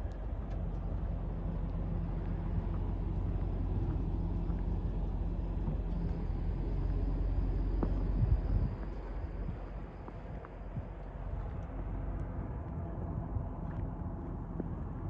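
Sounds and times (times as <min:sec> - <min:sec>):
outdoor background noise: 0:00.0 - 0:15.0
vehicle engine humming: 0:00.0 - 0:15.0.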